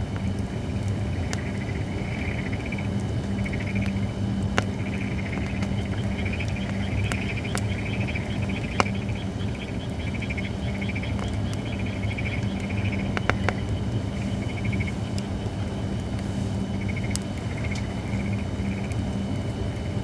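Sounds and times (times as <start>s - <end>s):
campfire crackling and popping: 0.0s - 20.0s
low steady hum: 0.0s - 20.0s.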